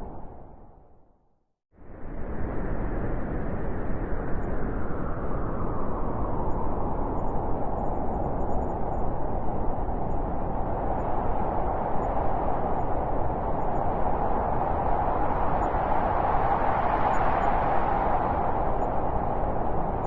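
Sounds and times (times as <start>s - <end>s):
blizzard wind rushing: 1.8s - 20.0s.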